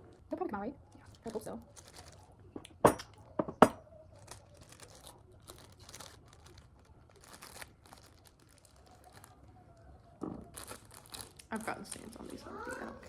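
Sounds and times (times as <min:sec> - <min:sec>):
material crinkling and rustling: 0:00.9 - 0:02.5, 0:04.1 - 0:13.0.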